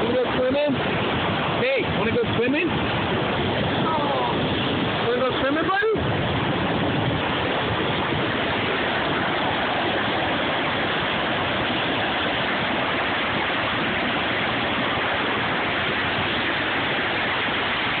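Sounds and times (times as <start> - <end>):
river whitewater roaring: 0.0 - 18.0.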